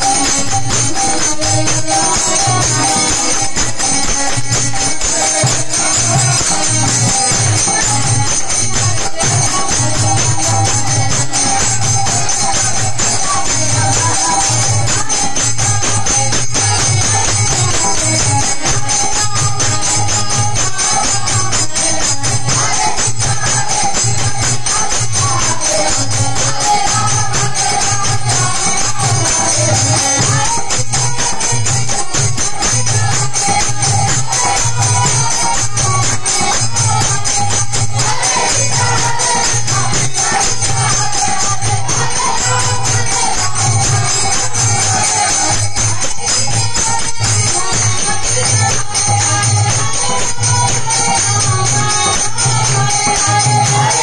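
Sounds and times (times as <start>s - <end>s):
group singing a chant: 0.0s - 54.0s
jingling hand cymbals: 0.0s - 54.0s.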